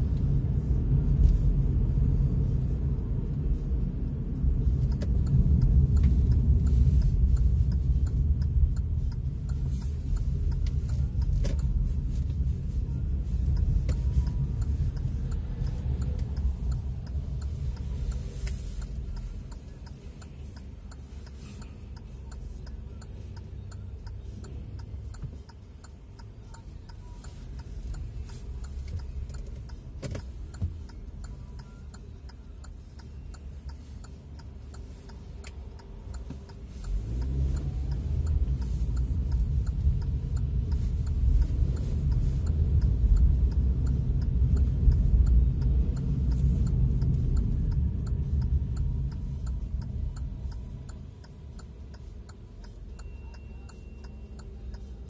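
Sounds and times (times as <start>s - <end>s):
car engine and road rumble: 0.0s - 55.0s
steady ticking: 1.6s - 55.0s.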